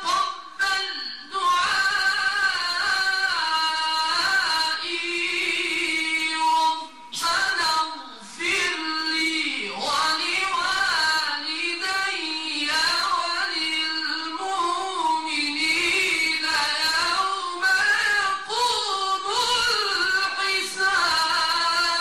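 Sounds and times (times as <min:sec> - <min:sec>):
man reciting melodically through microphone: 0:00.0 - 0:22.0.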